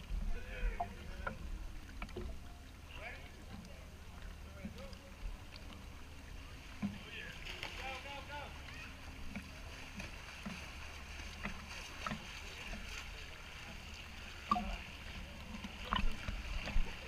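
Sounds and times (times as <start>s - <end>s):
water lapping and sloshing: 0.0s - 17.0s.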